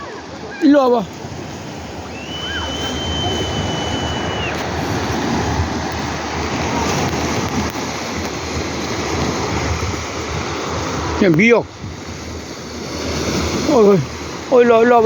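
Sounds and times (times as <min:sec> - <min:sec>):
sea surf washing in: 0:00.0 - 0:15.0
wind buffeting microphone: 0:00.0 - 0:15.0.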